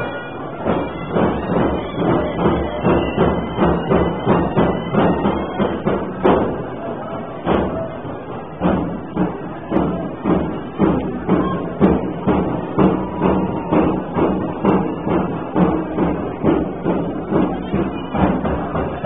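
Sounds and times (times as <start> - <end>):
drum beaten in steady rhythm: 0.0 - 19.0.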